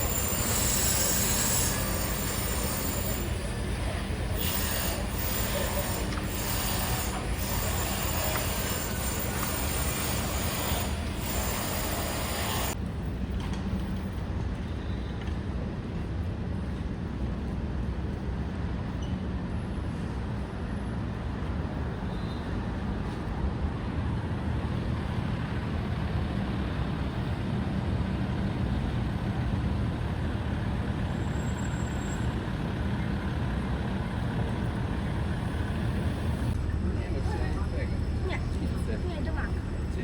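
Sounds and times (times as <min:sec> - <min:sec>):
road traffic rumble: 0:00.0 - 0:14.6, 0:20.0 - 0:40.0.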